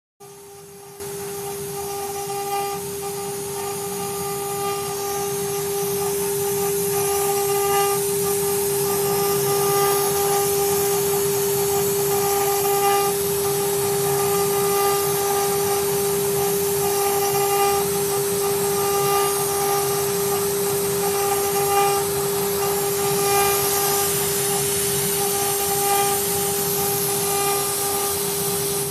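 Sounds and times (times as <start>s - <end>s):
router spindle whine: 0.2s - 28.9s
hiss of cutting: 0.6s - 28.9s.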